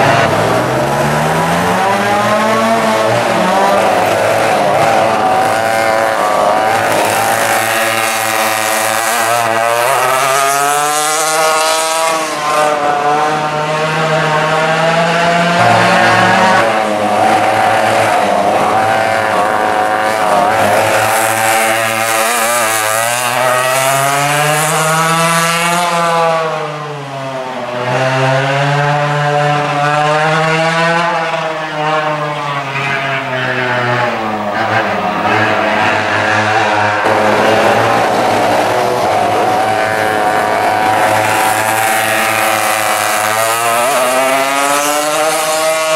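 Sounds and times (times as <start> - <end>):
racing kart engines revving: 0.0 - 45.9.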